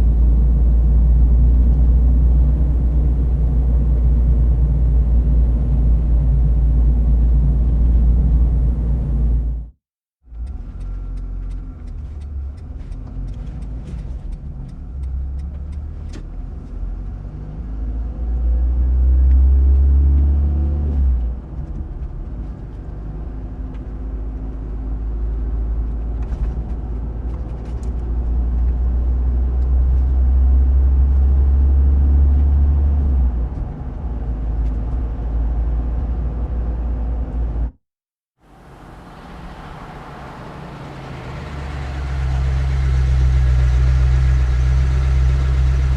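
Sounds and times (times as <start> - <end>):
car engine and road rumble: 0.0 - 37.8, 38.4 - 45.9.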